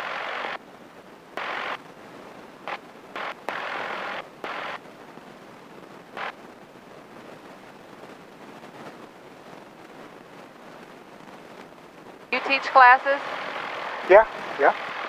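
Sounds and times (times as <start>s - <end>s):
headset intercom hiss: 0.0s - 0.6s, 1.4s - 6.6s, 7.2s - 15.0s.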